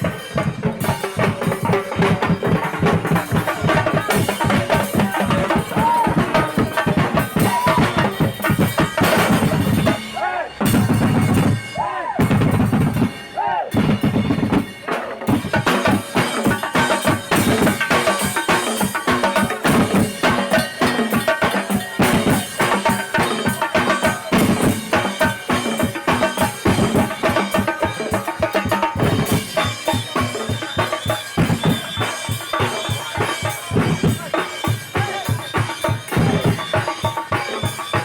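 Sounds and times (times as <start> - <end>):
marching band playing: 0.0 - 38.0
rapid bass and snare drumming: 0.0 - 38.0.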